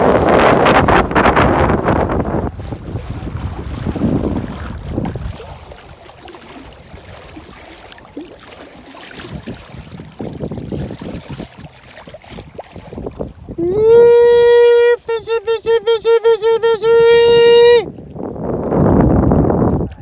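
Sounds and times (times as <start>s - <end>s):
wind buffeting microphone: 0.0s - 7.7s, 9.0s - 20.0s
water lapping against boat hull: 0.0s - 20.0s.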